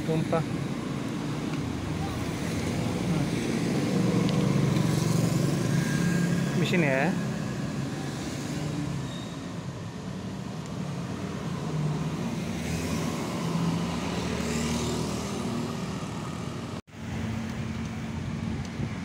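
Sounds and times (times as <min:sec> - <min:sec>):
motorbike and car engines passing: 0:00.1 - 0:19.0.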